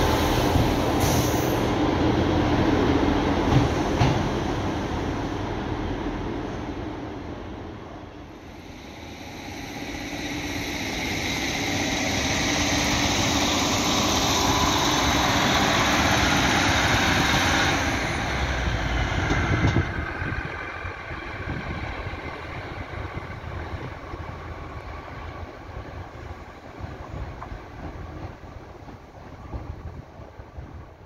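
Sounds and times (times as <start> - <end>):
diesel train passing: 0.0 - 31.0.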